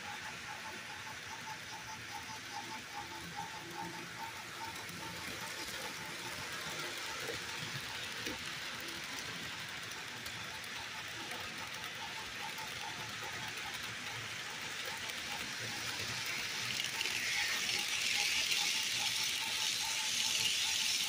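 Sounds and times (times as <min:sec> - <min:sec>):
model train wheels rattling on rail: 0:00.0 - 0:21.0.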